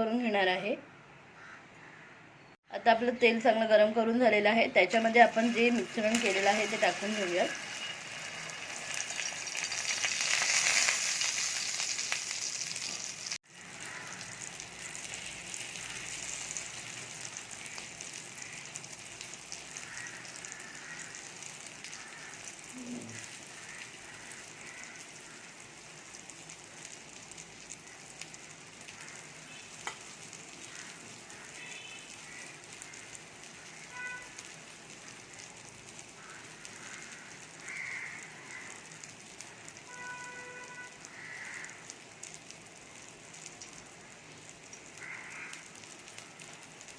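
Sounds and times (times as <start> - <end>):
egg sizzling in hot oil: 4.8 - 46.9.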